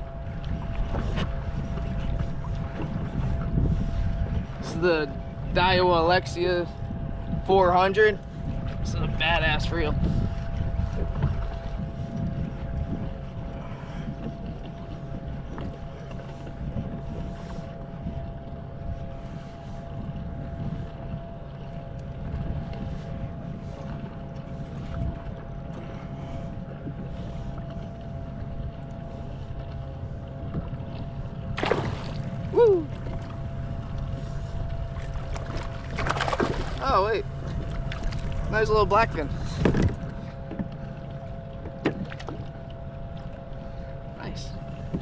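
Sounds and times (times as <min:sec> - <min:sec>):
faint steady hum: 0:00.0 - 0:45.0
water moving around kayak: 0:00.0 - 0:45.0
wind rumbling on microphone: 0:00.0 - 0:45.0.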